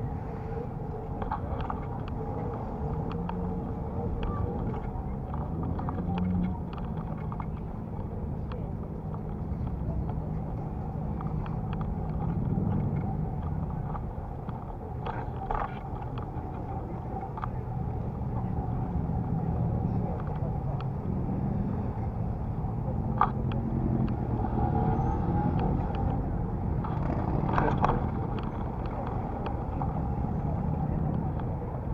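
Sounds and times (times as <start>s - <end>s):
road and traffic rumble: 0.0s - 31.9s.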